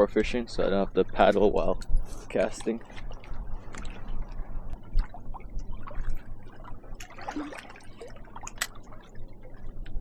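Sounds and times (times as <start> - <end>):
wind rumble on microphone: 0.0 - 10.0
water lapping and splashing: 0.9 - 10.0.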